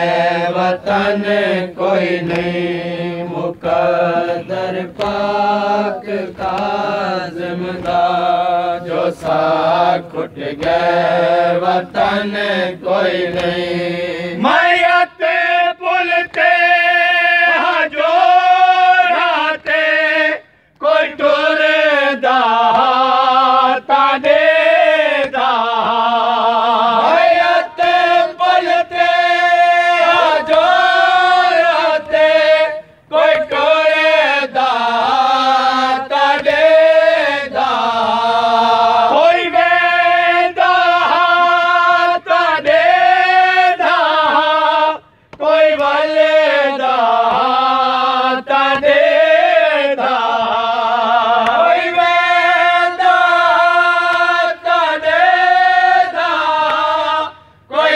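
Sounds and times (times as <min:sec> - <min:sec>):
men chanting a lament: 0:00.0 - 0:57.9.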